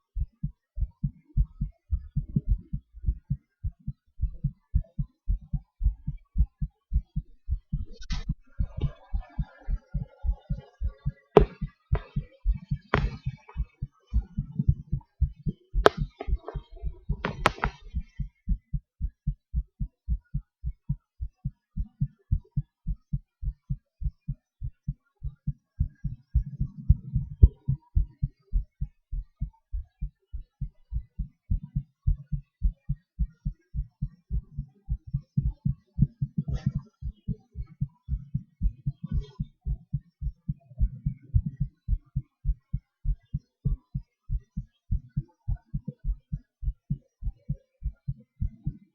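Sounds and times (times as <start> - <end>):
heartbeat thuds: 0.0 - 48.9.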